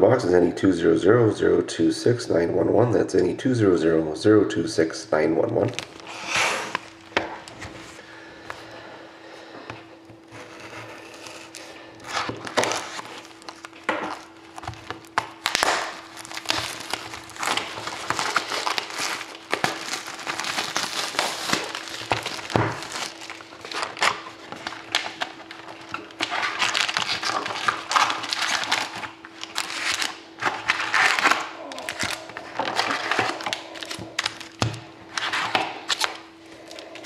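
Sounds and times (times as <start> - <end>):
plastic and foil crinkling: 5.6 - 8.6, 10.3 - 37.0.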